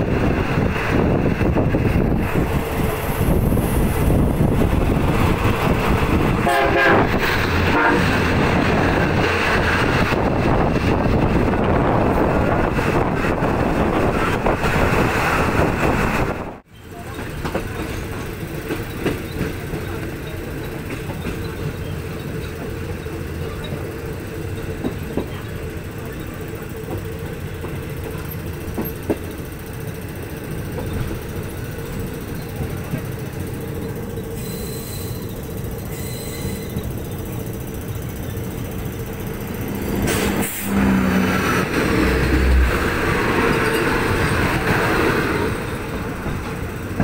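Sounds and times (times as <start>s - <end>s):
passing train rush: 0.0s - 47.0s
train wheels rumbling on rail: 0.0s - 47.0s.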